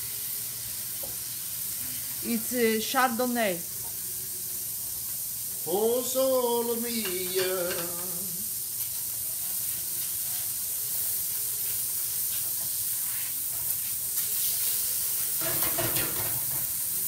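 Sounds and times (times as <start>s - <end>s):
oil sizzling in a skillet: 0.0s - 17.0s.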